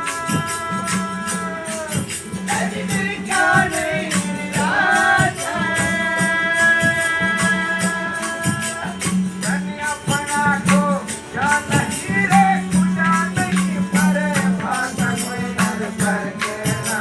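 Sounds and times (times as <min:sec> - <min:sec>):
jingling hand percussion: 0:00.0 - 0:17.0
man singing devotional song: 0:00.0 - 0:17.0.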